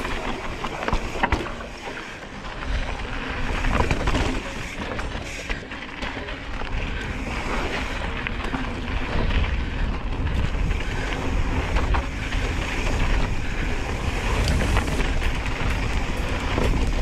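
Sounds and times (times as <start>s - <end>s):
bike clicks and rattles: 0.0s - 17.0s
tyre noise: 0.0s - 17.0s
wind buffeting microphone: 2.4s - 17.0s.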